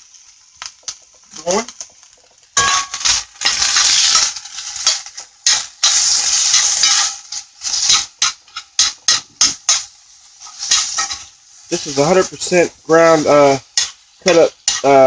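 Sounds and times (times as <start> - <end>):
beef sizzling in skillet: 0.0 - 15.0
utensil scraping pan: 2.6 - 15.0.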